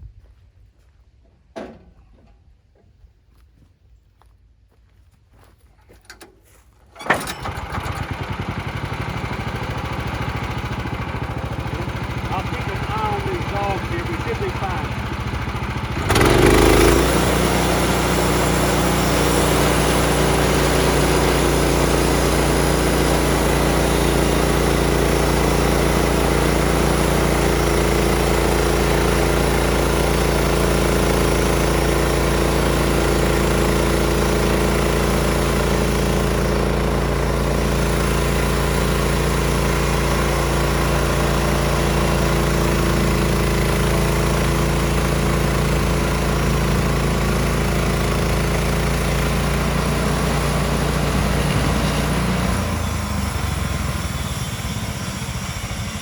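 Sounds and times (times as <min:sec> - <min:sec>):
sawmill gas engine running: 0:06.9 - 0:56.0.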